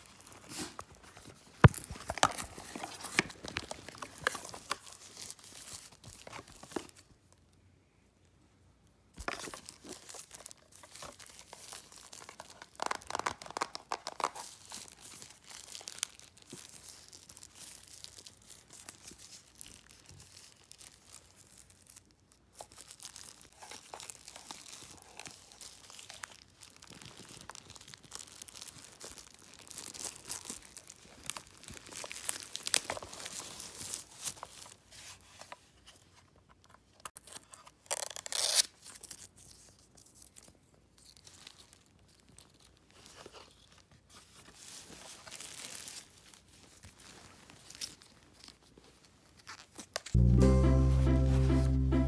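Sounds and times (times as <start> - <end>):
wrapping crinkling and tearing: 0.0 - 7.5, 9.2 - 51.8.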